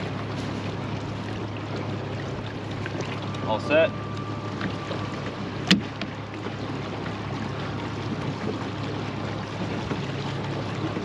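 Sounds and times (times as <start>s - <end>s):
boat motor humming: 0.0s - 11.0s
wind and water noise: 0.0s - 11.0s.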